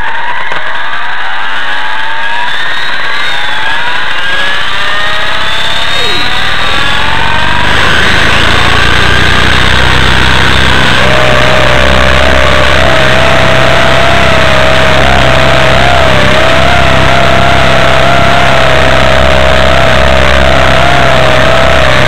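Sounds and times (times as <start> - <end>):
helicopter motor whine rising: 2.4 - 22.0
rotor downwash buffeting microphone: 4.3 - 22.0.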